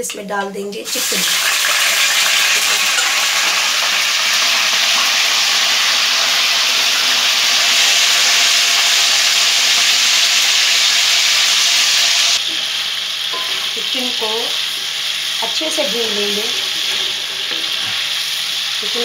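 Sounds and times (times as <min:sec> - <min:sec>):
chicken sizzling in hot oil: 0:00.9 - 0:19.0.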